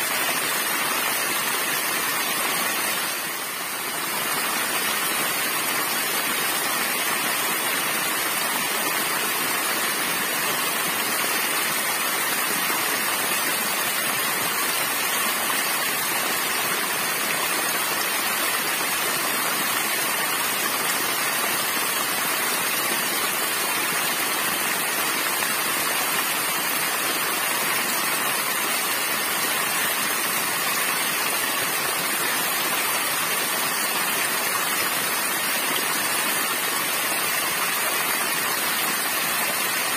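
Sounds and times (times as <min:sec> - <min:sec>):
small waterfall splashing onto rocks: 0:00.0 - 0:39.9.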